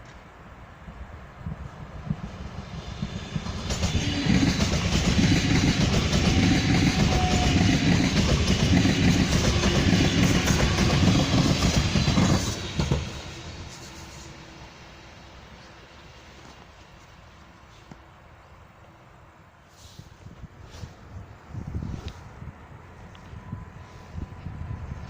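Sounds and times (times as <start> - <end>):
train passing: 0.0 - 25.0.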